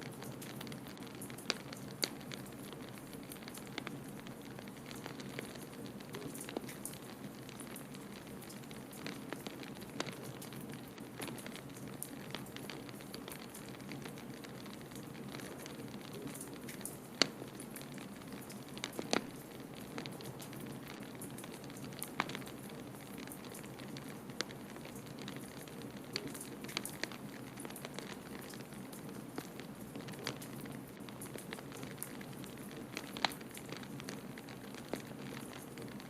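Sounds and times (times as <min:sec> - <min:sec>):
fire pops and snaps: 0:00.0 - 0:36.0
wood fire crackling: 0:00.0 - 0:36.0.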